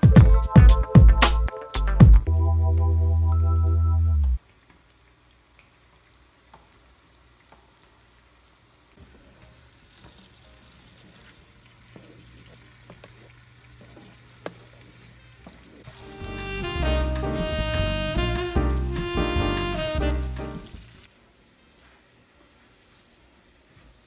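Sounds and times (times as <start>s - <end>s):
water boiling bubbling hiss: 4.4s - 24.0s.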